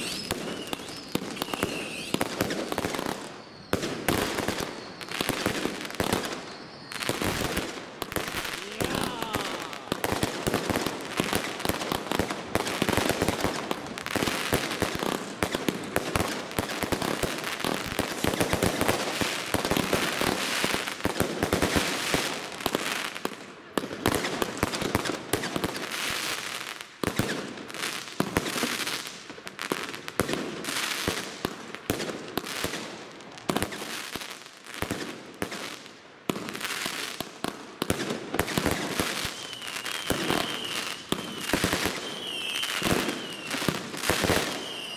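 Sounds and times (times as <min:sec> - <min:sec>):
firework crackling: 0:00.0 - 0:23.2, 0:32.0 - 0:44.9.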